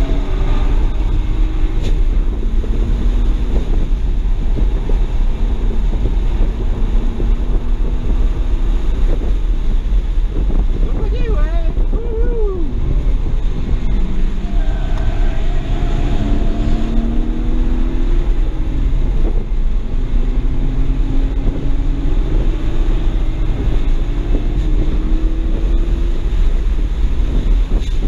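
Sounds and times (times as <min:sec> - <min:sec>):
car engine accelerating: 0:00.0 - 0:28.0
road and wind noise: 0:00.0 - 0:28.0.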